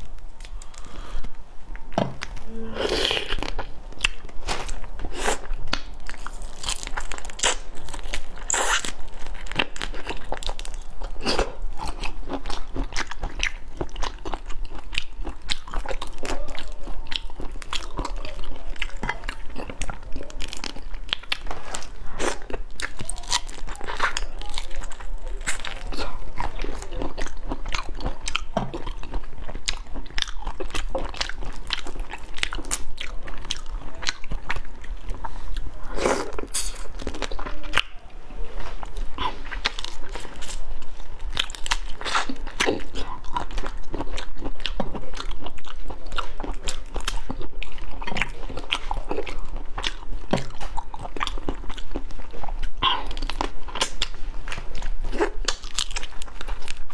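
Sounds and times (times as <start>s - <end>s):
prawn shells crunching while chewing: 0.0s - 38.0s, 38.6s - 56.9s.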